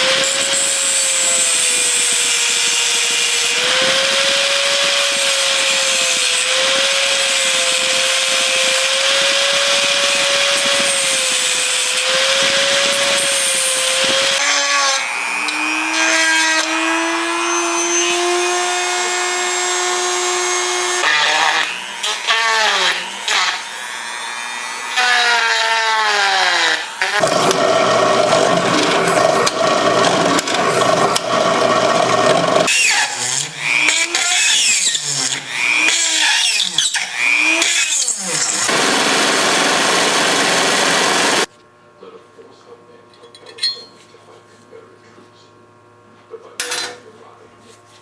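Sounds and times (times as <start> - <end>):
rotary tool whining and rasping: 0.0 - 41.5.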